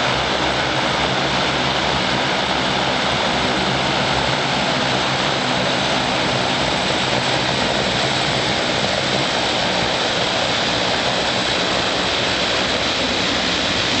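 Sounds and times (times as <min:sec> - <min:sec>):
turboprop aircraft taxiing: 0:00.0 - 0:14.0.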